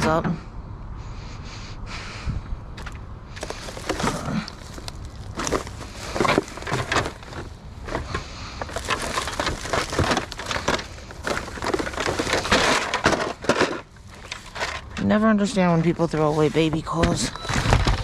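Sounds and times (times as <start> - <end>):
rummaging through trash: 2.8 - 18.0.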